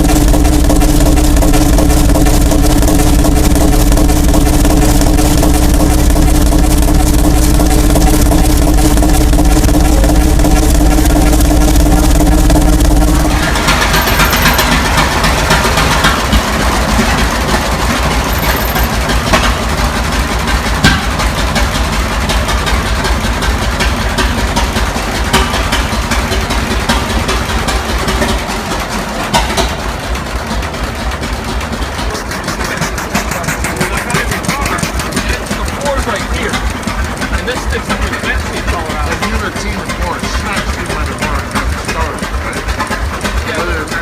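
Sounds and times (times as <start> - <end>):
large engine running: 0.0 - 44.0.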